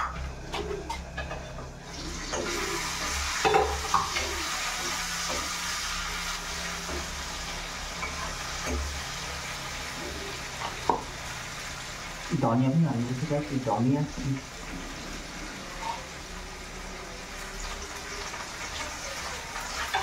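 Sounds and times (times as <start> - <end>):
pork sizzling in a wok: 0.0 - 20.0.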